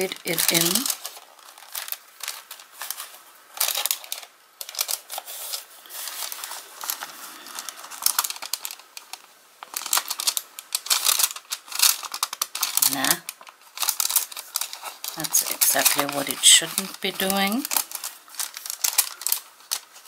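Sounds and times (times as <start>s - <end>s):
paper envelope rustling: 0.0s - 20.0s.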